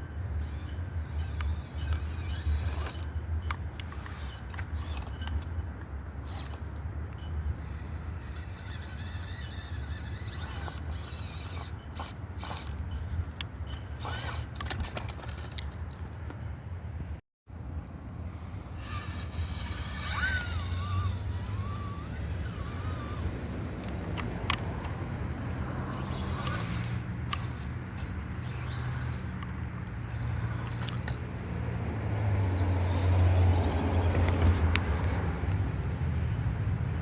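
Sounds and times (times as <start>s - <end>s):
toy truck motor and gear whine: 0.0s - 16.2s, 17.6s - 37.0s.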